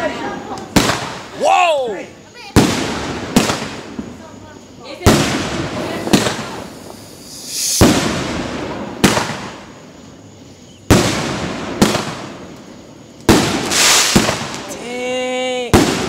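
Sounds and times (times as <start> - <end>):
firework shells booming: 0.5 - 1.4, 2.5 - 14.9, 15.6 - 16.0.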